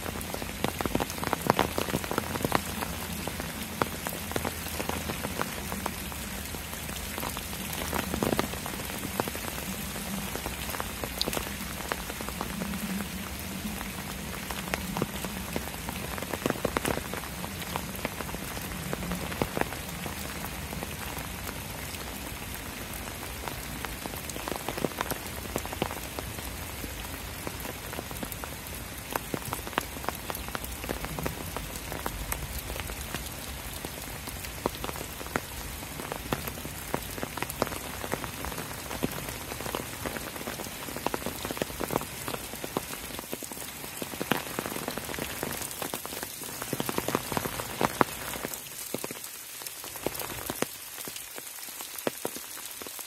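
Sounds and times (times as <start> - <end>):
rain hiss: 0.0 - 53.0
raindrops striking sharply: 0.0 - 53.0.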